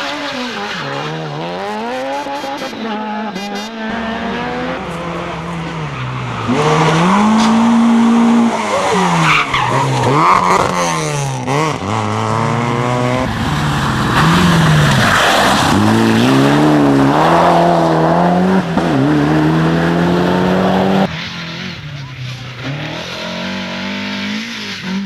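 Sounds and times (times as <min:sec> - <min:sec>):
race car engine revving: 0:00.0 - 0:25.0
tyre and road noise: 0:00.0 - 0:25.0.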